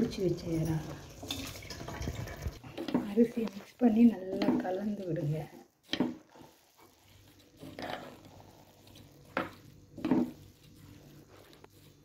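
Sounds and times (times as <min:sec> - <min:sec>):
metal spoon scraping pot: 0:01.2 - 0:11.5.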